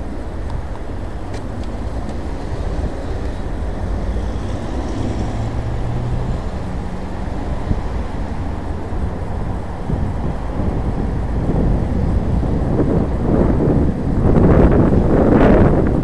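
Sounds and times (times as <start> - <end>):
road and wind noise: 0.0 - 16.0
vehicle engine hum: 0.0 - 16.0.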